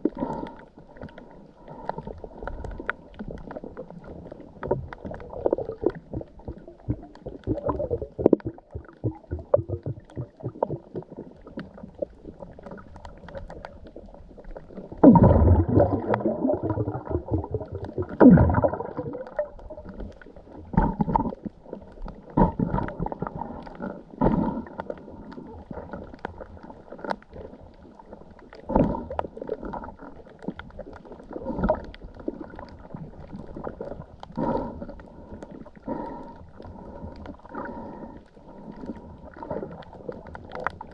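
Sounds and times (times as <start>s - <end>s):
sea water sloshing and gurgling: 0.0s - 40.9s.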